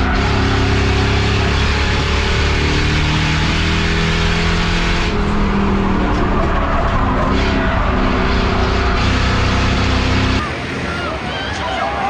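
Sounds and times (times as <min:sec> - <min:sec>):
race car engine droning: 0:00.0 - 0:12.0.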